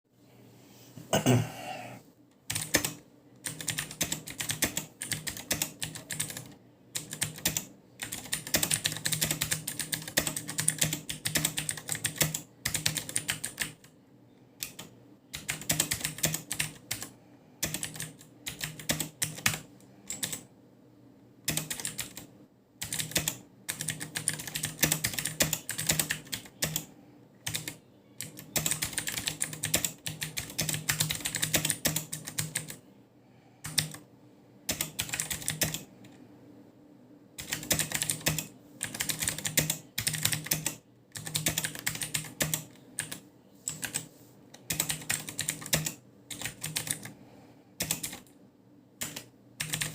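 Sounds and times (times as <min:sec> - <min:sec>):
clicky mechanical keyboard typing: 0:02.5 - 0:13.9, 0:14.6 - 0:20.5, 0:21.5 - 0:32.8, 0:33.6 - 0:34.0, 0:34.7 - 0:36.2, 0:37.4 - 0:47.2, 0:47.8 - 0:48.4, 0:49.0 - 0:49.9.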